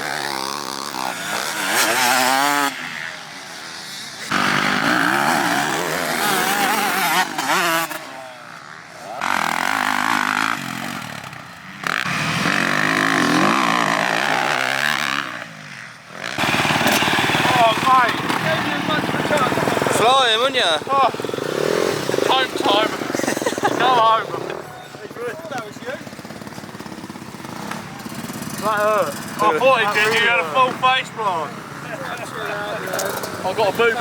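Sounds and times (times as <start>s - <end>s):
motocross bike engine revving: 0.0s - 34.0s.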